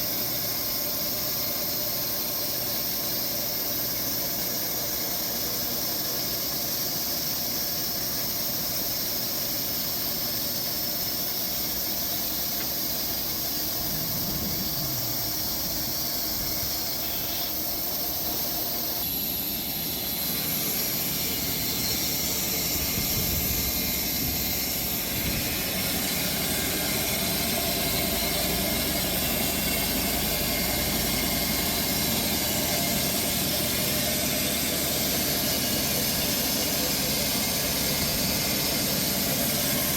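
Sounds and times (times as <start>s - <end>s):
saw blade cutting log hiss: 0.0s - 39.9s
sawmill running: 0.0s - 39.9s.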